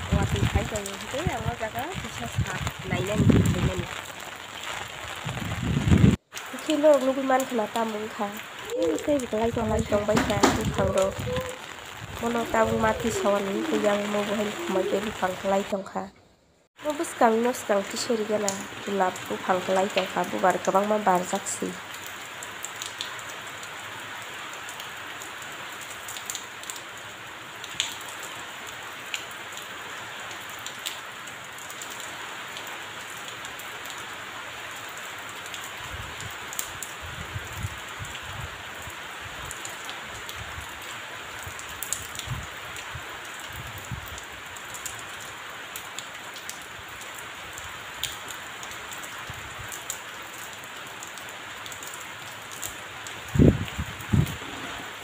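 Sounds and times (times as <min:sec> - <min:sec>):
steady rain on pavement: 0:00.0 - 0:15.8, 0:16.7 - 0:55.0.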